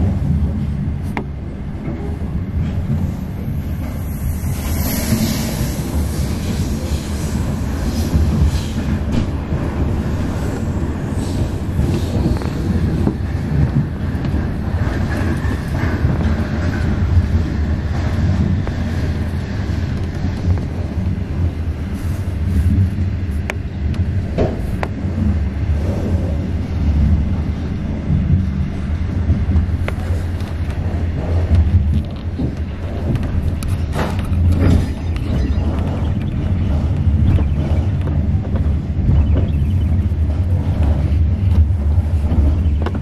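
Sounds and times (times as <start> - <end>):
train coach rumbling on track: 0.0 - 43.0.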